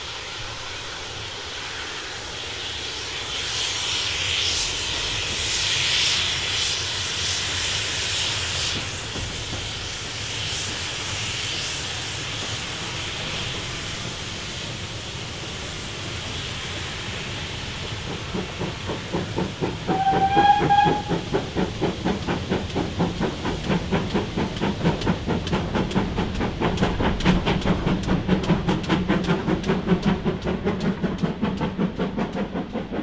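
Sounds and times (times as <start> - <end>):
steam locomotive chuffing: 0.0 - 33.0
train rumbling: 0.0 - 33.0.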